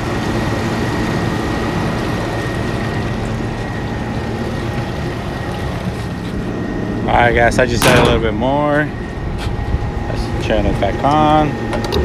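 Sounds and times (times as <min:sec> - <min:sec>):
cooler blower humming: 0:00.0 - 0:12.0
thin steady whine: 0:00.0 - 0:12.0.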